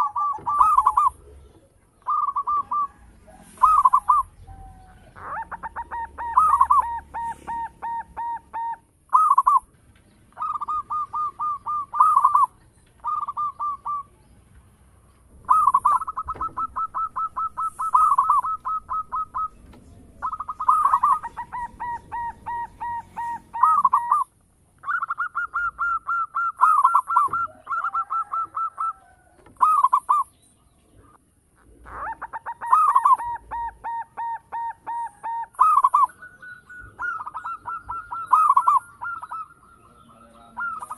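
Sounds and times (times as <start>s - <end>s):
dove cooing: 0.0s - 14.7s, 15.3s - 40.9s.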